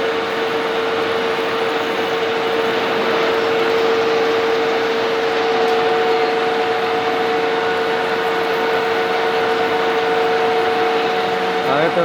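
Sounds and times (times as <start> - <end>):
higher machine whine: 0.0 - 12.0
lathe drilling with whine: 0.0 - 12.0.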